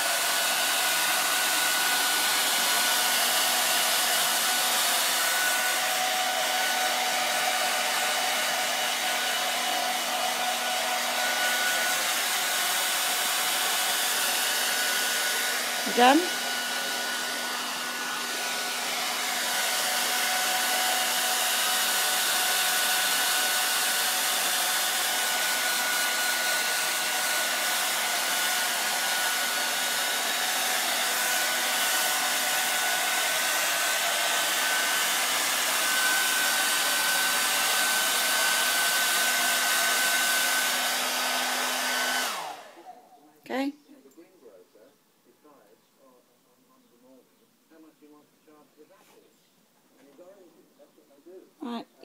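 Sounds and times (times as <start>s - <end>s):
hair dryer running: 0.0s - 43.6s.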